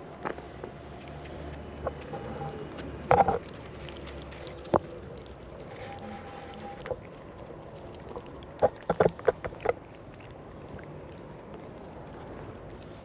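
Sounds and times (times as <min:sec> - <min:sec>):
cats eating wet food: 0:00.0 - 0:13.0
loud wet smacks and chews: 0:00.2 - 0:13.0.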